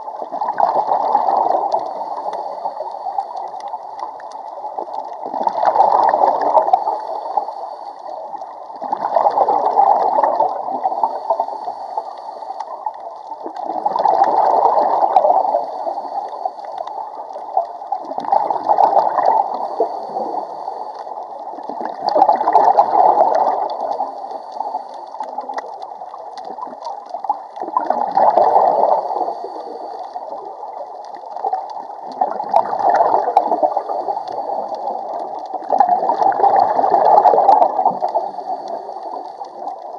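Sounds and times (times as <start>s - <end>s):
underwater exhaled bubbles: 0.0s - 39.9s.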